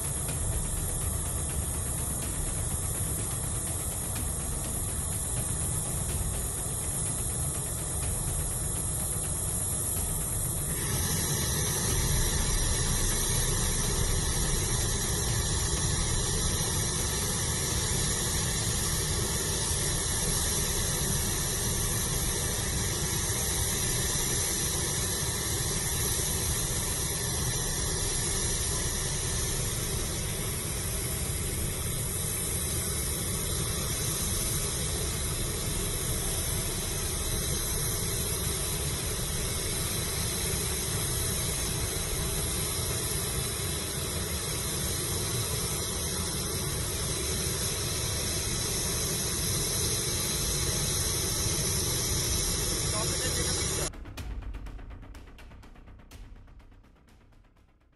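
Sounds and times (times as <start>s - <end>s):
aircraft turbine hiss: 0.0s - 56.7s
high-pitched whine: 0.0s - 57.3s.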